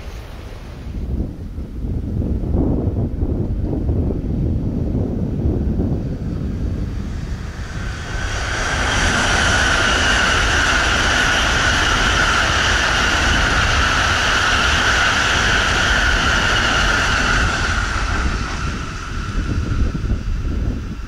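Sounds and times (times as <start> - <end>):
train passing at high speed: 0.0 - 21.0.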